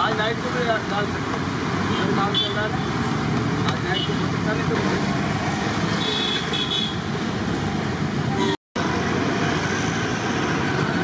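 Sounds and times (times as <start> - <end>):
roadside traffic noise: 0.0 - 11.0.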